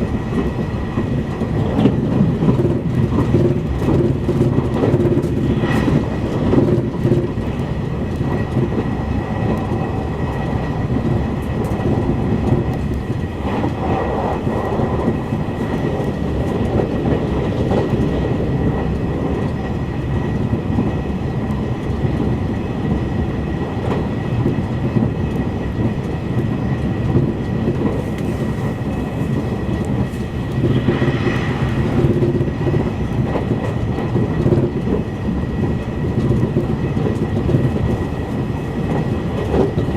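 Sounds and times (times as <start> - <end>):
rail clatter: 0.0 - 39.9
train wheels rumbling on rail: 0.0 - 39.9.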